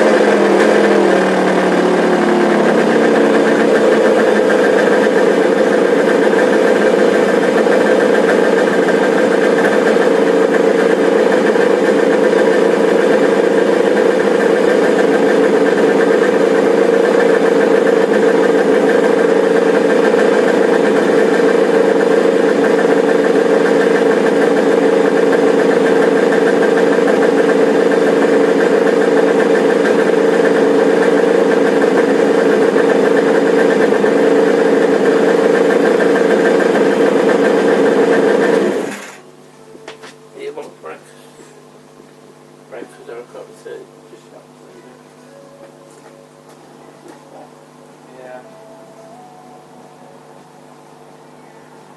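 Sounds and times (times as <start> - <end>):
two-stroke engine running: 0.0 - 51.2.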